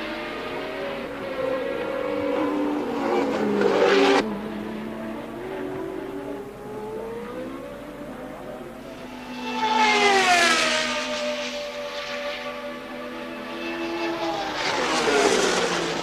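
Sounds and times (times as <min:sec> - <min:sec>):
racing car engines revving: 0:00.0 - 0:16.0
racing car passing: 0:00.0 - 0:16.0.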